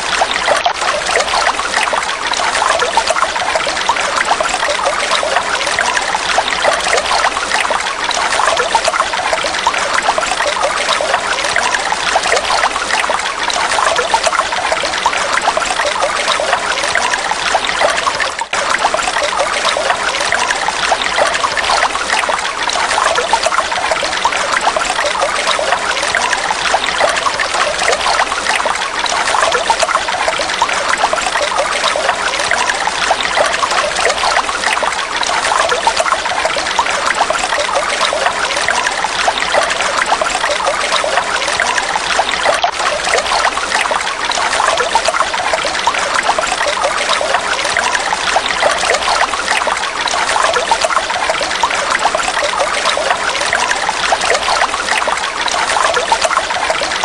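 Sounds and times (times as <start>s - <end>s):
stream trickling over pebbles: 0.0s - 57.0s.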